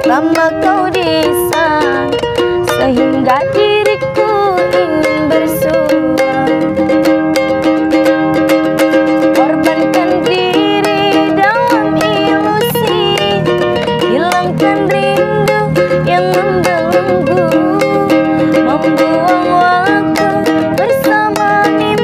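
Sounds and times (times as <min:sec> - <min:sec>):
woman singing: 0:00.0 - 0:07.3, 0:08.8 - 0:22.0
strummed ukulele: 0:00.0 - 0:22.0.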